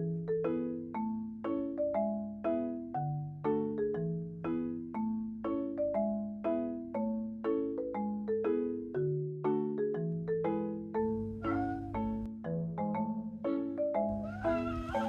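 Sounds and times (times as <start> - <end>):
mallet instrument melody: 0.0 - 15.0.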